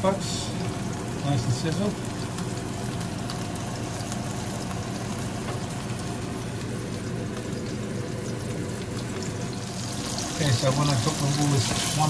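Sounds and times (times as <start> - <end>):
burger patties sizzling in oil: 0.0 - 12.0.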